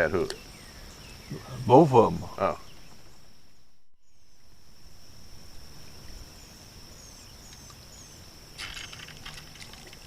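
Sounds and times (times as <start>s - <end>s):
bird chirping: 0.0s - 4.6s, 5.8s - 9.6s
insects trilling: 0.0s - 10.0s.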